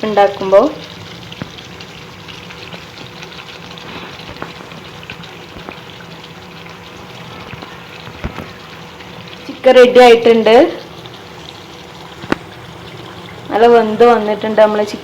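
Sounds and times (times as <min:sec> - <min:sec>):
curry sizzling and bubbling: 0:00.0 - 0:15.0.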